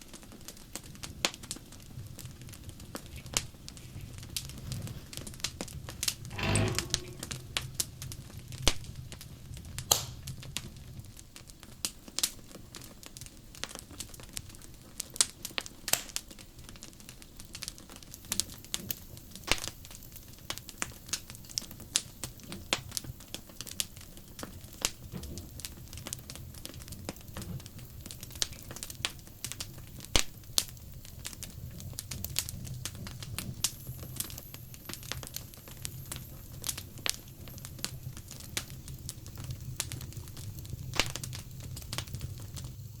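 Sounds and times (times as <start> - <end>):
low steady burning noise: 0.0 - 43.0
wood fire crackling and popping: 0.0 - 43.0.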